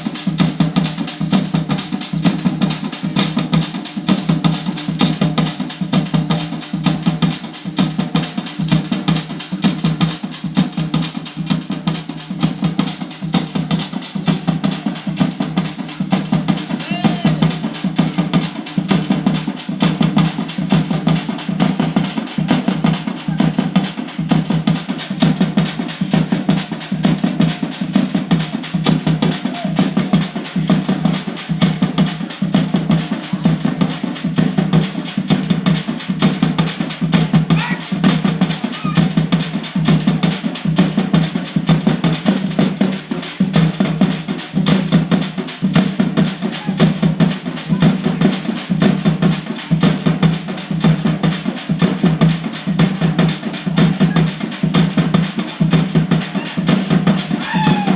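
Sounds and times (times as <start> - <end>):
drums beating fast: 0.0 - 57.9.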